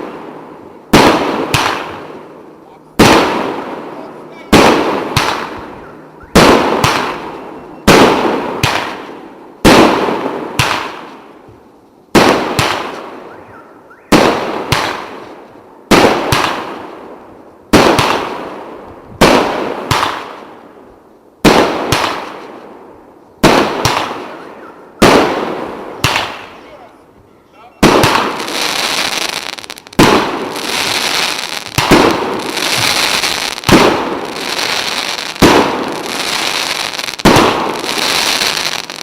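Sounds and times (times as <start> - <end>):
fireworks bangs: 0.0 - 11.4, 12.1 - 13.4, 14.1 - 20.6, 21.4 - 22.7, 23.4 - 26.8, 27.8 - 39.0.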